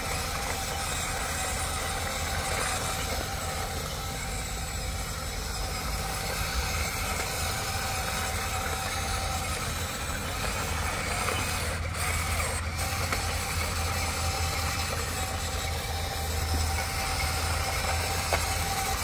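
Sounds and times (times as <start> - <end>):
toy excavator motors humming: 0.0 - 19.0.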